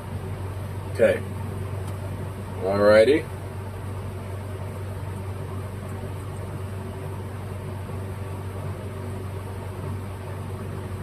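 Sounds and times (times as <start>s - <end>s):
mechanical hum with low drone: 0.0s - 11.0s.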